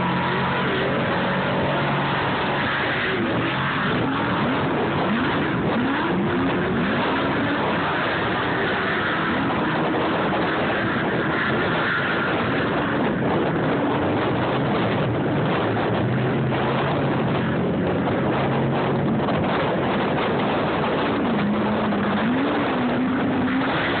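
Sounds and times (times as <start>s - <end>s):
race vehicle engines: 0.0s - 24.0s
steady rushing noise: 0.0s - 24.0s.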